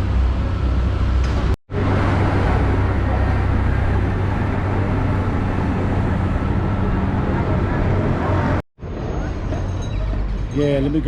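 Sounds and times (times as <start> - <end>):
vehicle rumble and hiss: 0.0 - 11.0.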